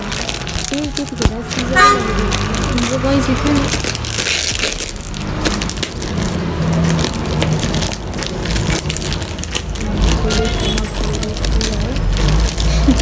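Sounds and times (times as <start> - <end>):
gift packaging crackling and tearing: 0.0 - 13.0.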